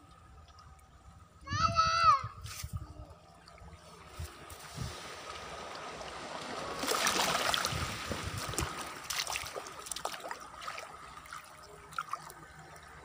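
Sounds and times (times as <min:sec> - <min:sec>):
seawater washing at shoreline: 0:01.8 - 0:13.0.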